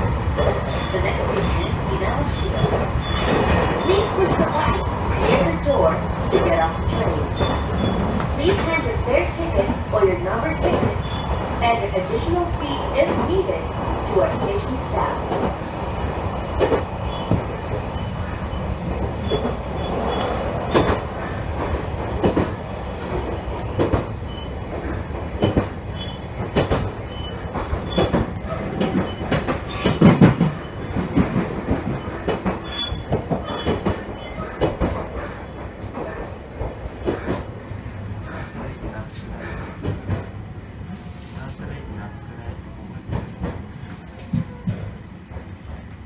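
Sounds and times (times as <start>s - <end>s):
train rumble on rails: 0.0s - 46.0s.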